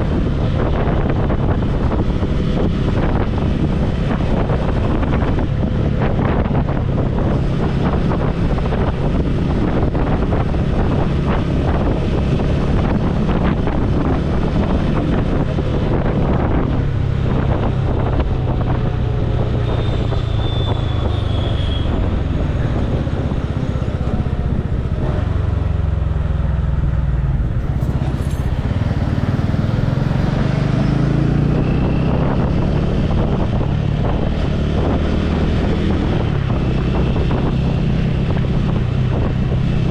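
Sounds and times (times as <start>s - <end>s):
motorcycle engine: 0.0s - 39.9s
road rumble: 0.0s - 39.9s
wind noise on microphone: 0.0s - 39.9s.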